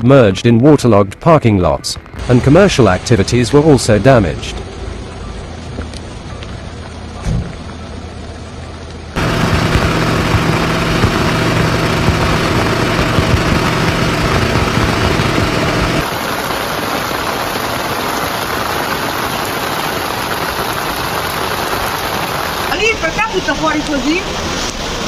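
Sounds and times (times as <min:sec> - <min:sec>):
heavy rain rushing: 0:01.6 - 0:25.0
engine running: 0:01.9 - 0:25.0.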